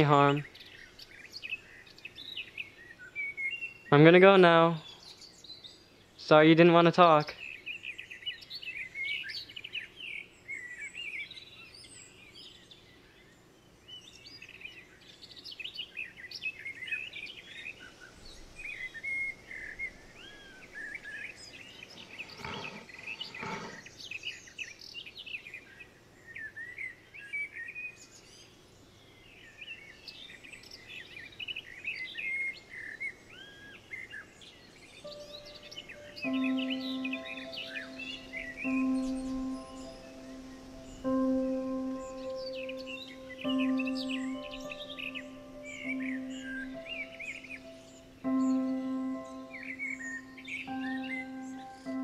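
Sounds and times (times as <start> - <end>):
songbirds singing and chirping: 0.0 - 52.0.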